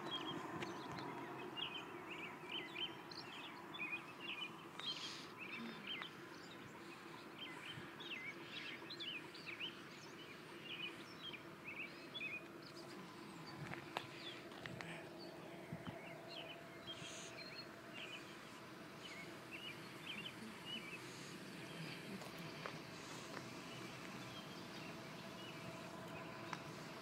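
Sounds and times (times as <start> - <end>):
birds chirping: 0.0 - 27.0
faint low hum: 0.0 - 27.0.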